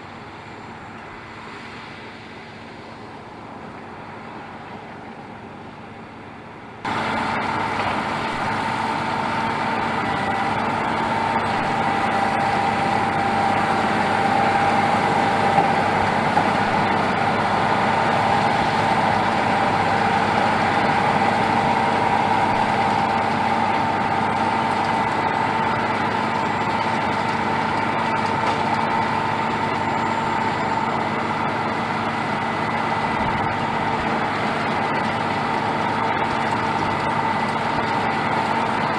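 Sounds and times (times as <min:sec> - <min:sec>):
tractor engine running: 0:03.5 - 0:38.9
steady whine: 0:06.9 - 0:38.9.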